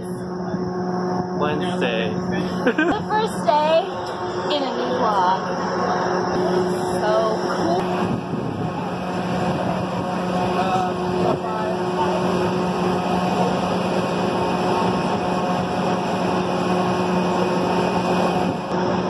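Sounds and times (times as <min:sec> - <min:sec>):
low fan hum: 0:00.0 - 0:19.0.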